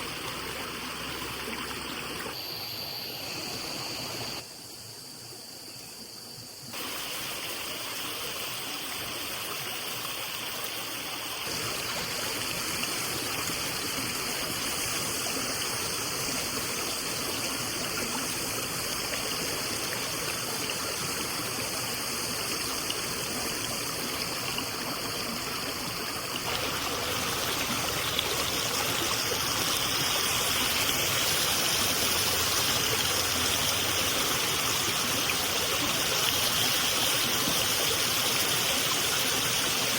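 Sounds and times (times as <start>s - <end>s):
running water rushing: 0.0s - 4.4s, 6.8s - 39.9s.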